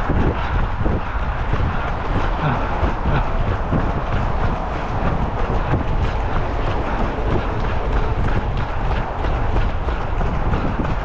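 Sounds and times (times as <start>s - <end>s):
running footfalls: 0.0s - 11.0s
wind buffeting microphone: 0.0s - 11.0s.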